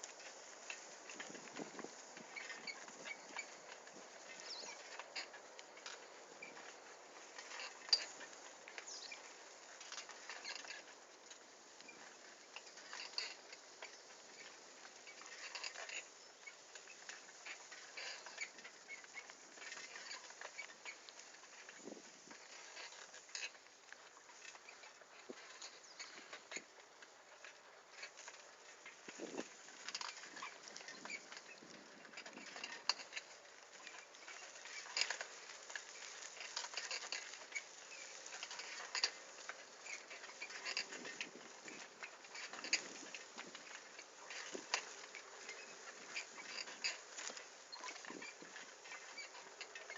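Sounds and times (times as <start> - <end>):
bicycle rattle: 0.0 - 49.9
bicycle tyres crackling on twigs: 0.0 - 49.9.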